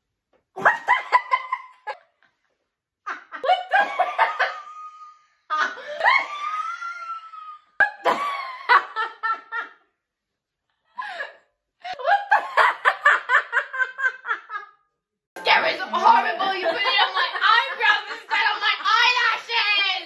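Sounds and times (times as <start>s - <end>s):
girls laughing: 0.6s - 2.2s, 3.0s - 9.9s, 11.0s - 20.0s.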